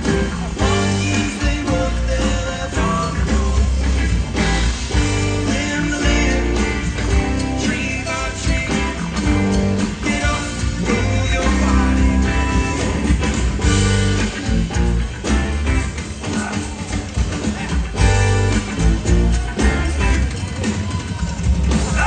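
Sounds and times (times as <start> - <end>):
live rock band: 0.0 - 22.0.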